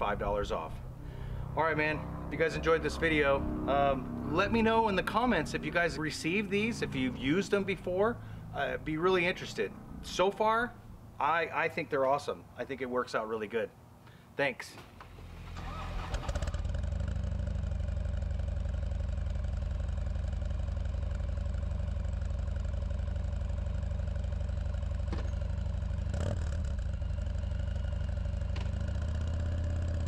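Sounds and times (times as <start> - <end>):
motorcycle engine idling: 0.0 - 11.2, 15.7 - 30.0.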